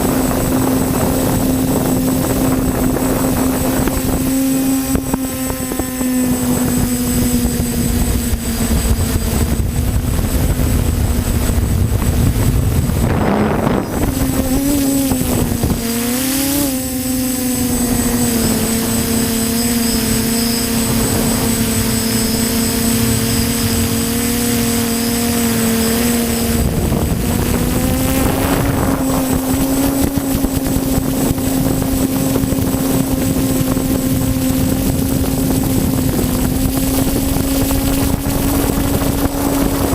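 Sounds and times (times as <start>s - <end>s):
drone motors whining: 0.0s - 39.9s
wind rumble on microphone: 0.0s - 39.9s.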